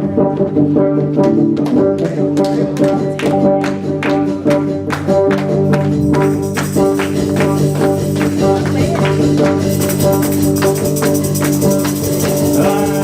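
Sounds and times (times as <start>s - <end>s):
held chords: 0.0s - 13.0s
steady drumbeat: 1.2s - 13.0s.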